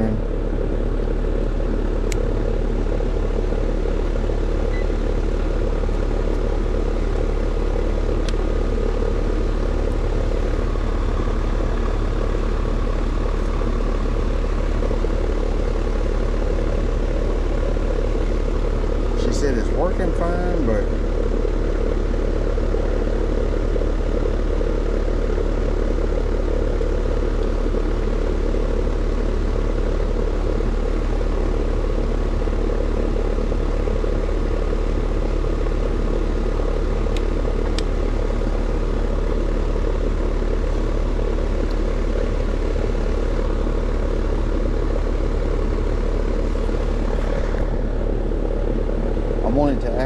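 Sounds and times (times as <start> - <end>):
heat pump unit droning: 0.0 - 50.0
low electrical hum: 0.0 - 50.0.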